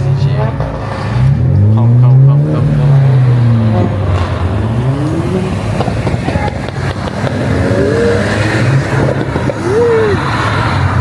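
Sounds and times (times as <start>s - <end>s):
car engines revving: 0.0s - 11.0s
exhaust pops: 0.4s - 10.9s.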